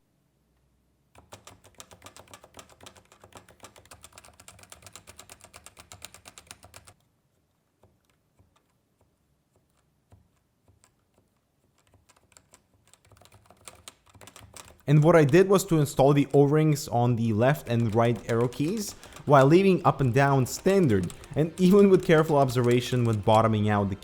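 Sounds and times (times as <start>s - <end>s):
keyboard keys being pressed: 1.2s - 7.0s, 7.8s - 24.0s.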